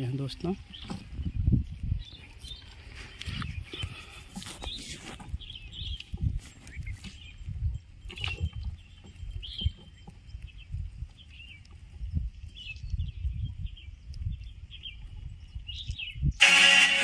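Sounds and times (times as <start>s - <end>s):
bird chirps: 0.6s - 16.5s.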